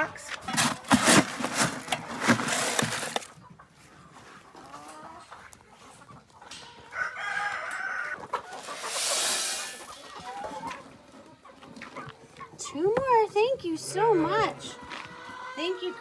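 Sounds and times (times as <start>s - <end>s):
chickens rustling and knocking: 0.0s - 15.5s.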